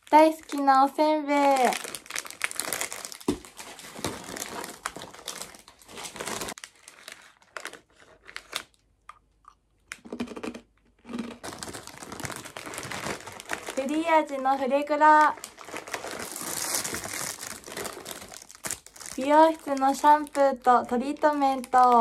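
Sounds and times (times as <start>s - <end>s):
plastic packaging crinkling: 0.0s - 8.9s, 9.9s - 22.0s.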